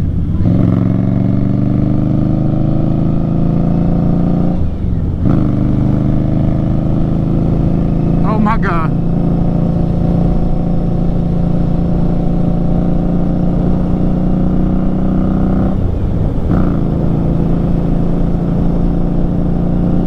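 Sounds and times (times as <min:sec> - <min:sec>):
motorcycle exhaust: 0:00.0 - 0:20.0.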